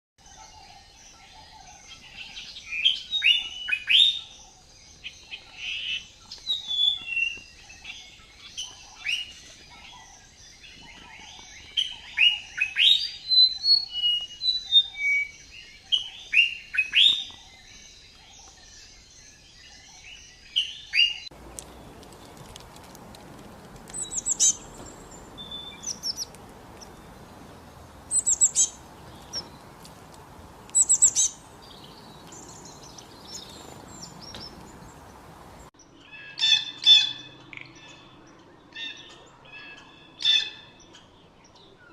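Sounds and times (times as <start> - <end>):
birds chirping: 0.2 - 41.9.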